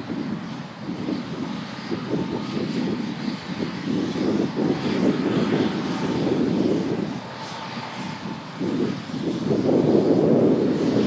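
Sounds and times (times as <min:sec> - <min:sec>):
diesel locomotive drone: 0:00.0 - 0:11.0.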